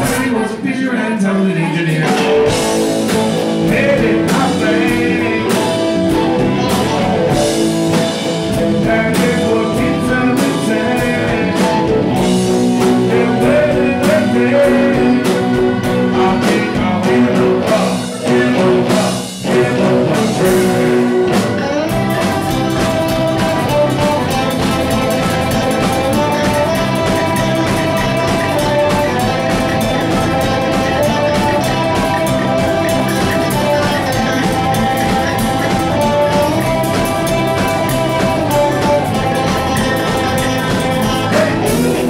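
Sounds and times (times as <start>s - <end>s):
drum kit: 0.0s - 0.6s, 1.9s - 42.0s
bass guitar: 0.0s - 42.0s
electric guitars: 0.0s - 42.0s
person singing: 0.0s - 42.0s.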